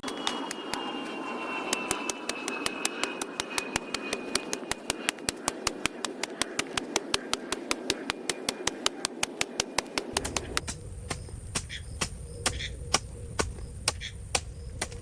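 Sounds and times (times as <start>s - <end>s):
rapid even ticking: 0.0s - 15.0s
small machine humming: 0.0s - 15.0s.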